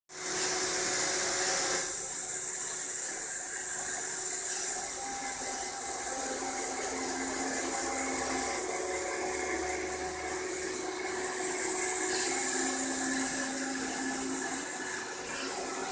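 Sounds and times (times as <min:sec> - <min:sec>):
robot vacuum motor hiss: 0:00.2 - 0:15.9.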